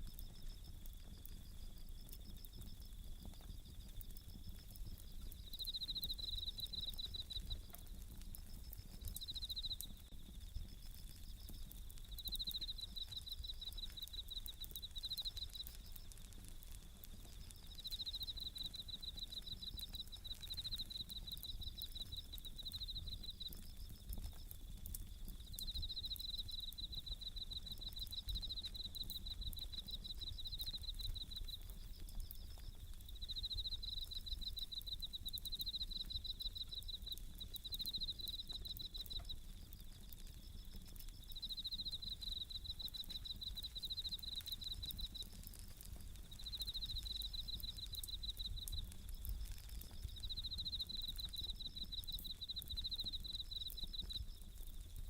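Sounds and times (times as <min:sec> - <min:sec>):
campfire crackling and popping: 0:00.0 - 0:55.0
crickets singing in pulsed trills: 0:00.0 - 0:55.0
low burning rumble: 0:00.0 - 0:55.0.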